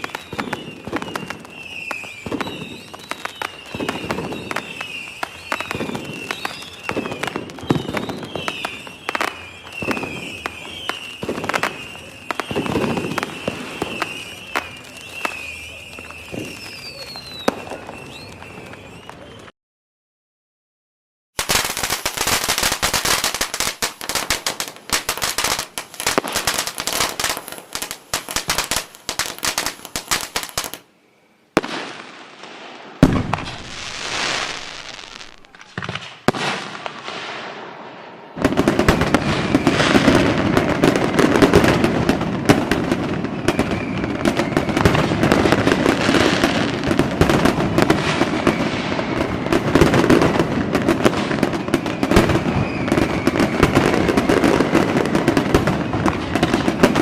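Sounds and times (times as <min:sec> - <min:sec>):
firework bangs with hiss: 0:00.0 - 0:19.5, 0:21.4 - 0:30.9, 0:31.5 - 0:57.0
fireworks crackling: 0:00.0 - 0:19.5, 0:21.4 - 0:30.9, 0:31.5 - 0:57.0.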